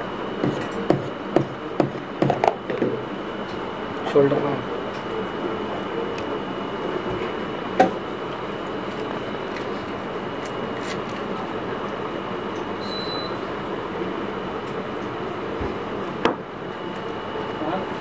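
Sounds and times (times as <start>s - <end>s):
fan whirring with high whine: 0.0s - 18.0s.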